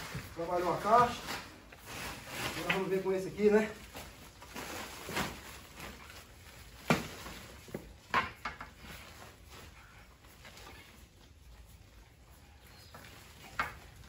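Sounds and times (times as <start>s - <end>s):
plastic sack rustling: 0.0s - 14.0s.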